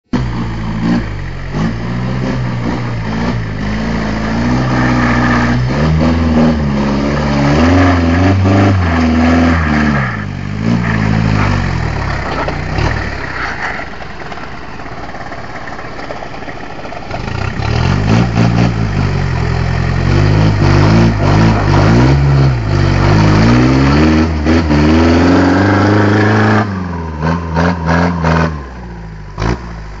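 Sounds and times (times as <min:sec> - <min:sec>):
truck engine revving: 0:00.1 - 0:30.0.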